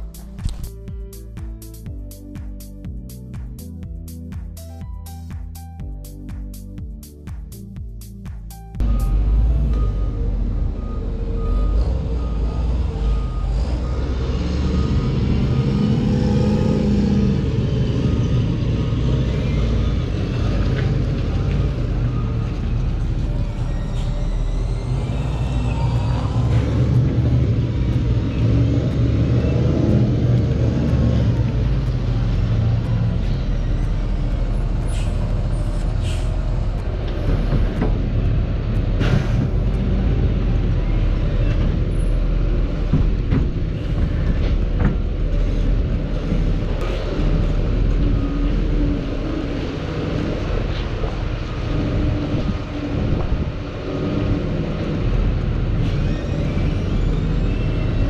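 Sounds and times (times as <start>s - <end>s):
lorry engine and road rumble: 0.0s - 58.0s.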